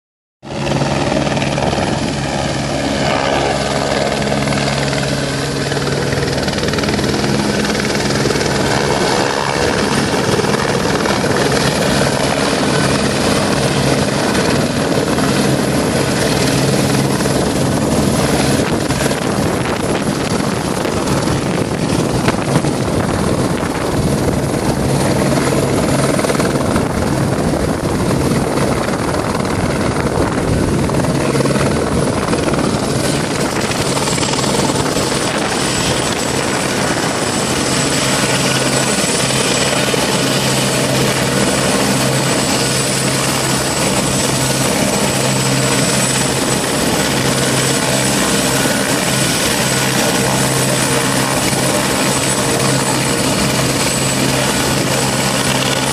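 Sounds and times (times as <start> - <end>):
helicopter rotor and engine drone: 0.4 - 55.9
wind rumbling on microphone: 0.6 - 55.9.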